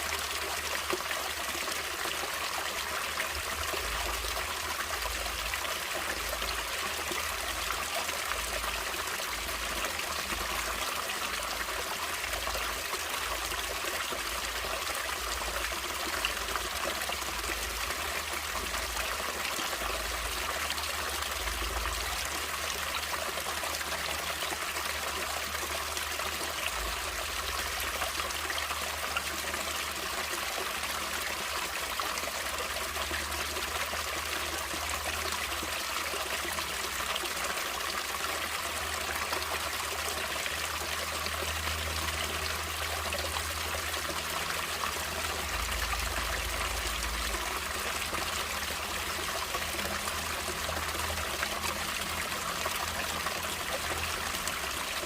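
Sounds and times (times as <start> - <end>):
stream trickling and rushing: 0.0 - 55.0.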